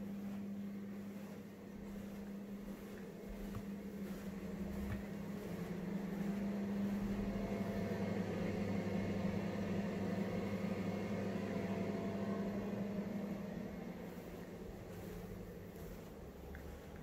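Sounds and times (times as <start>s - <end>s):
extractor fan humming: 0.0s - 17.0s.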